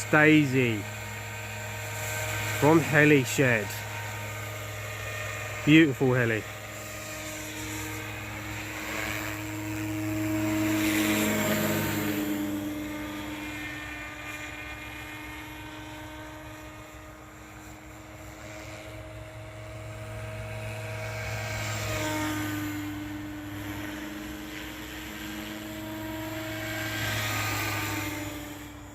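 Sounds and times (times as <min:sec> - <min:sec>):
rc helicopter rotor whine: 0:00.0 - 0:28.9.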